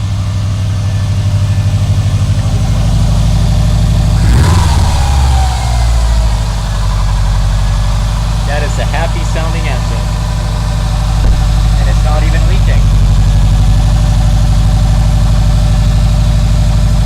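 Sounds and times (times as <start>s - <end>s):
car engine idling: 0.0s - 17.0s
car engine revving: 0.0s - 17.0s.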